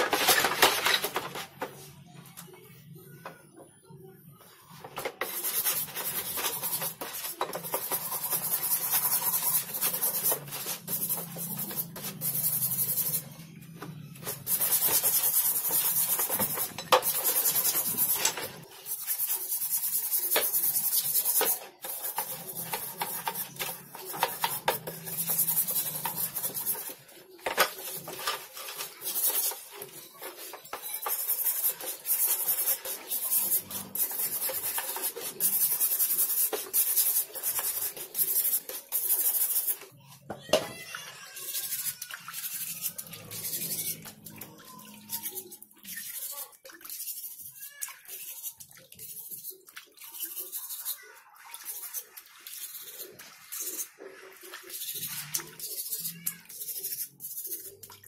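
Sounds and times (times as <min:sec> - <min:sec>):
hand brush scrubbing steel: 0:05.2 - 0:13.4, 0:14.2 - 0:39.9, 0:41.4 - 0:44.2, 0:45.0 - 0:57.9.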